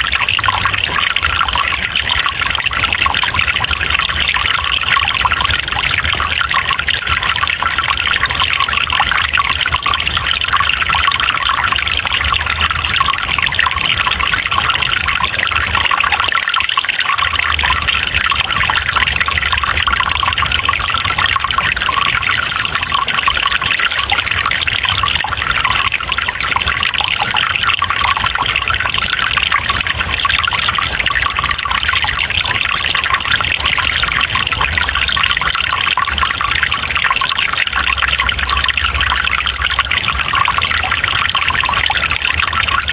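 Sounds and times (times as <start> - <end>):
water trickling in a stream: 0.0 - 42.9.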